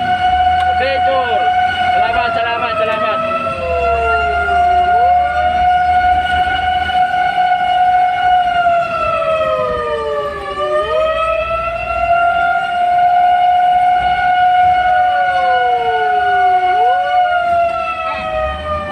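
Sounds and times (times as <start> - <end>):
low engine rumble: 0.0 - 18.9
swooping siren tone: 0.0 - 18.9
wailing siren: 0.0 - 18.9.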